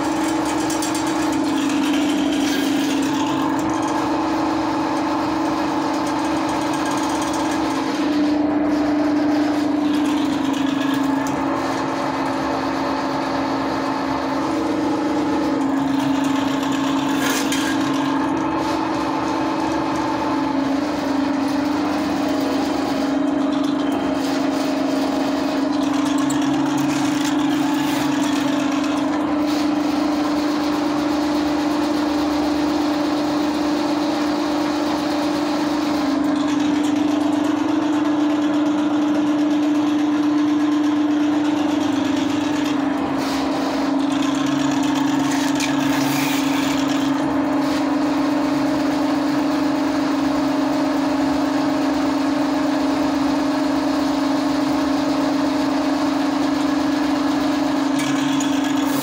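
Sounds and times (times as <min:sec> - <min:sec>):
drain-cleaning machine motor humming: 0:00.0 - 0:59.0.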